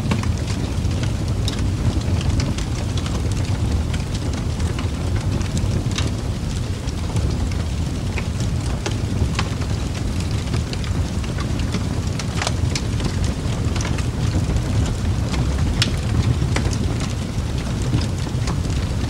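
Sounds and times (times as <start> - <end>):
low rumble: 0.0 - 19.0
steady rain: 0.0 - 19.0.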